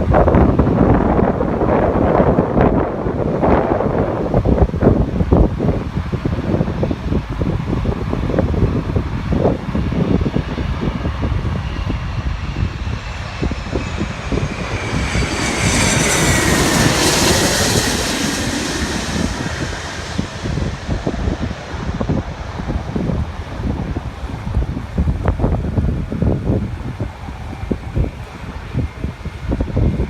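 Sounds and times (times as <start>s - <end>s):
jet airliner passing overhead: 0.0s - 30.0s
wind buffeting the microphone: 0.0s - 30.0s.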